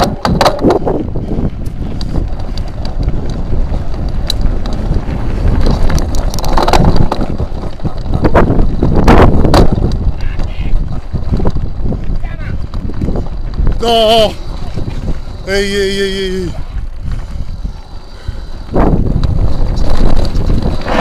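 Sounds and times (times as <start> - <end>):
bike clicks and rattles: 0.0 - 21.0
wind buffeting microphone: 0.0 - 21.0.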